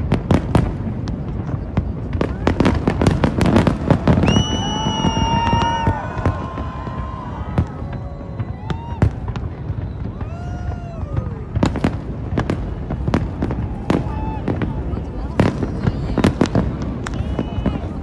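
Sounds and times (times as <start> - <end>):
fireworks bangs and cracks: 0.0 - 18.0
rumble of distant fireworks bursts: 0.0 - 18.0.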